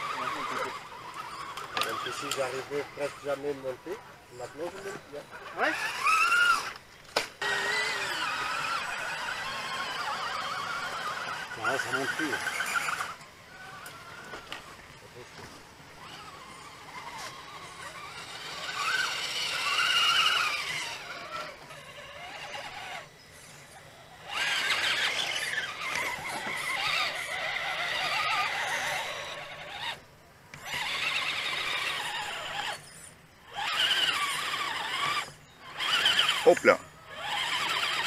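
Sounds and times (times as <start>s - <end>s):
electric motor and gearbox whining: 0.0s - 38.0s.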